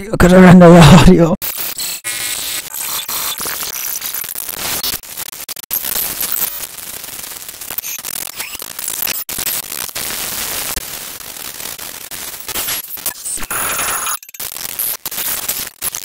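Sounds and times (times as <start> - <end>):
glitchy harsh digital noise: 0.2 - 16.0.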